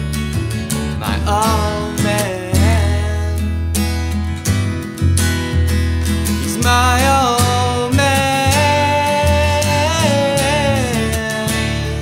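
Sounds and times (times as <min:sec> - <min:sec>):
acoustic guitar strumming: 0:00.0 - 0:12.0
upright bass notes: 0:00.0 - 0:12.0.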